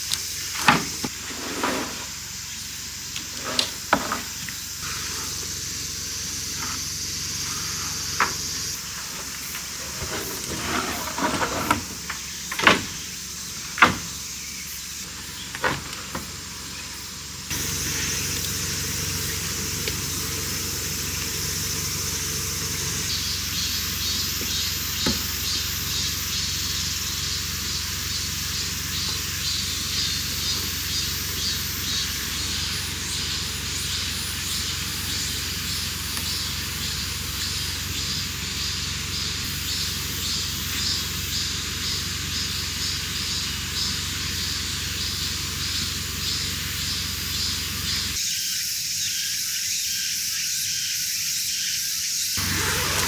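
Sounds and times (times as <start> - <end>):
steady loud hiss: 0.0 - 53.0.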